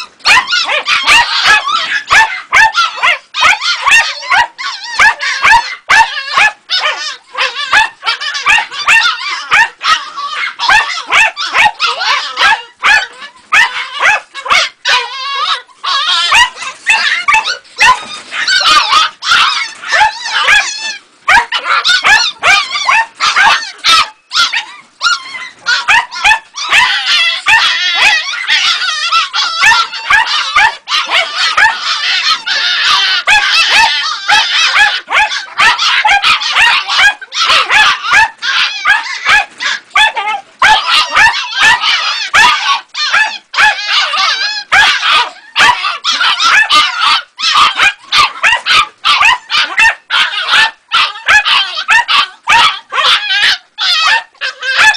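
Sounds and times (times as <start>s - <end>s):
puppy and fox yelping and screeching: 0.0s - 54.9s.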